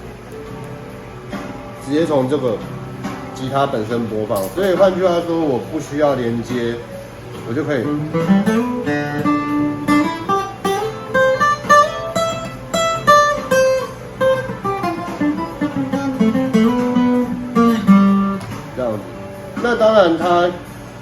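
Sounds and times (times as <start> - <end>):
guitar music through speaker: 0.0 - 21.0.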